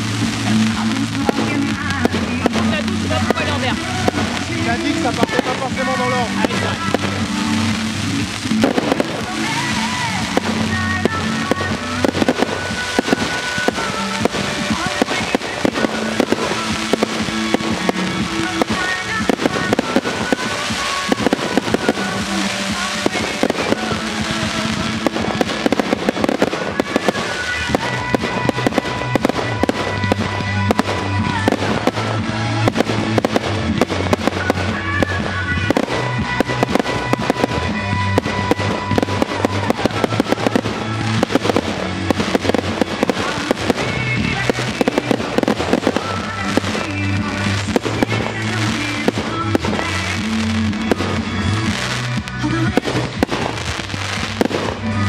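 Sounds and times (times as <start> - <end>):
fireworks bursting and crackling: 0.0 - 55.0
music with deep bass: 0.0 - 55.0.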